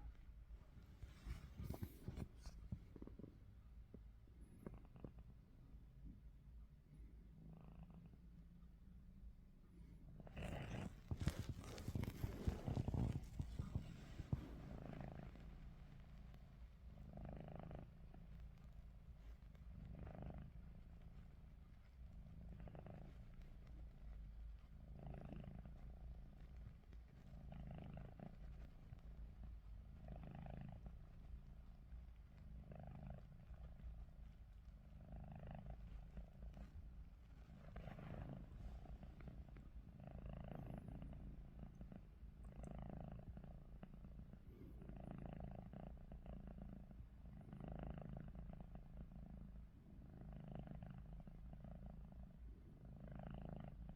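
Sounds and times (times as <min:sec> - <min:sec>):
cat snoring faintly: 0:00.0 - 0:53.9.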